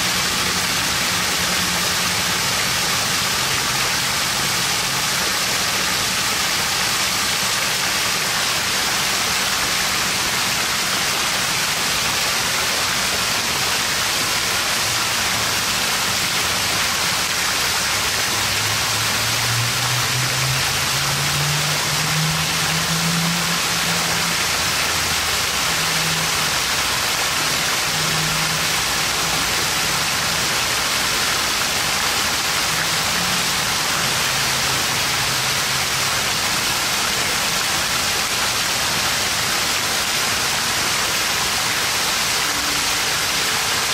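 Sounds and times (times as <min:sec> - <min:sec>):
fountain water splashing: 0:00.0 - 0:43.9.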